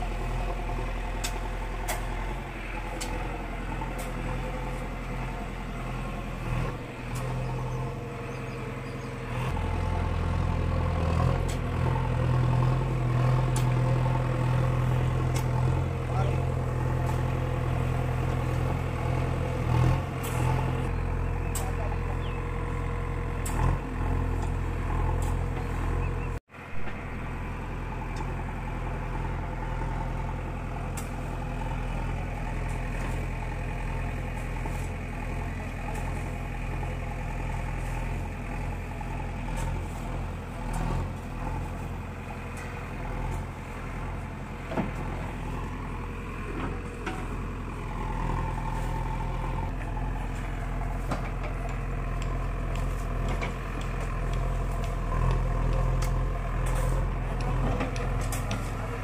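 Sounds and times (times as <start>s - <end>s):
diesel engine running: 0.0s - 59.0s
soil being dumped and spread: 0.0s - 59.0s.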